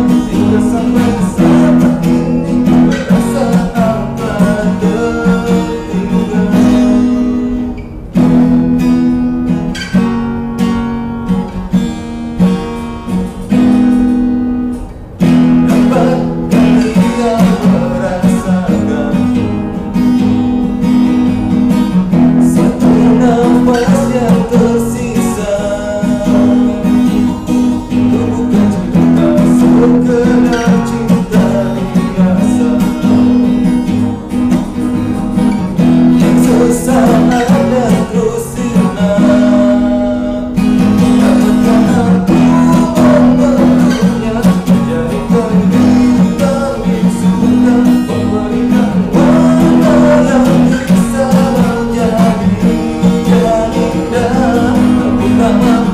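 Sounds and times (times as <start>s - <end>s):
man singing: 0.0s - 7.7s, 15.3s - 20.0s, 21.3s - 55.9s
strummed acoustic guitar: 0.0s - 55.9s.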